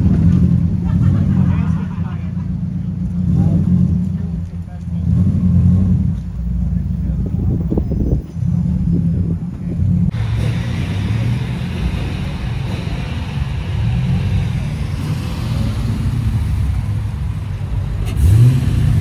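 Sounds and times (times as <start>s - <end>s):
car engine revving: 0.0s - 19.0s
car engine rumbling: 0.0s - 19.0s.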